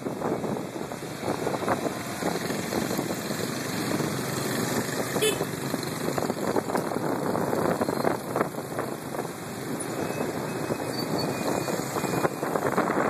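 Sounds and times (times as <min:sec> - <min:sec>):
motorbike traffic: 0:00.0 - 0:13.0
wind buffeting microphone: 0:00.0 - 0:13.0.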